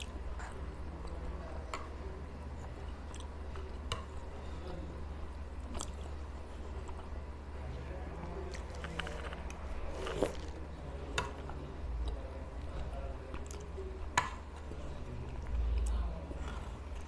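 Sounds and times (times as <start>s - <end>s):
low steady hum: 0.0s - 17.0s
soft wet chewing: 0.0s - 17.0s.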